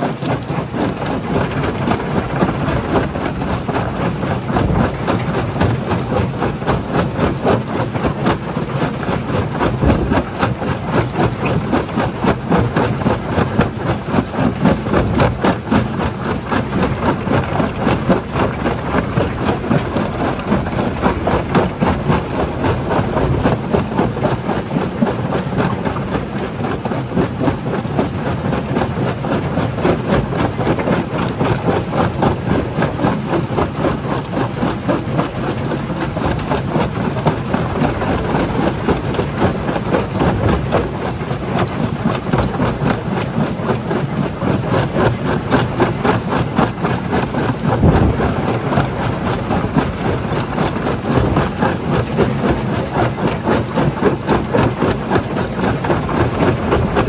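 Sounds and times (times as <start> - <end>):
heavy machine rumble: 0.3 - 26.6, 35.3 - 43.2, 44.8 - 57.0.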